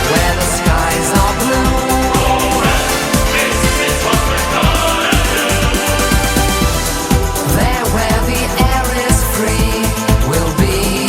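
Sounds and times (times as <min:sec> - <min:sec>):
pop song with steady beat: 0:00.0 - 0:11.0.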